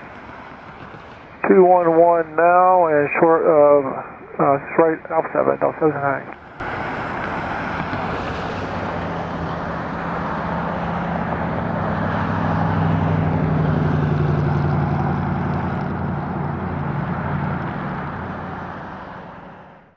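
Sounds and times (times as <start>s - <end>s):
jet engines taxiing: 0.0s - 19.9s.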